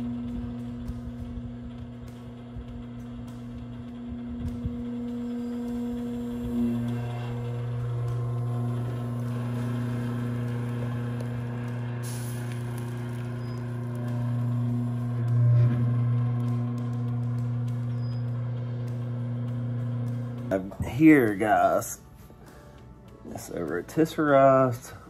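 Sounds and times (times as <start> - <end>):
rotisserie motor humming: 0.0 - 25.0.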